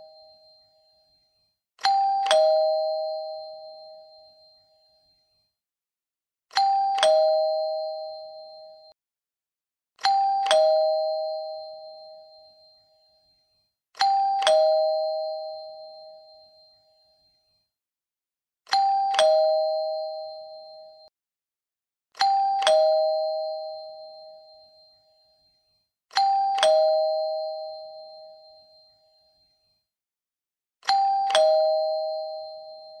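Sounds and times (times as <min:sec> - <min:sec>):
two-tone chime doorbell: 0:00.0 - 0:05.6, 0:06.5 - 0:09.0, 0:10.0 - 0:17.8, 0:18.7 - 0:21.1, 0:22.2 - 0:29.9, 0:30.8 - 0:33.0.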